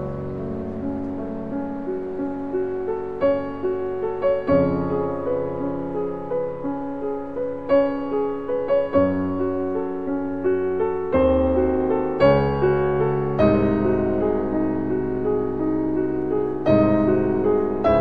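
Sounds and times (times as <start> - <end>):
deep piano bass notes: 0.0 - 18.0
piano melody over chords: 0.0 - 18.0.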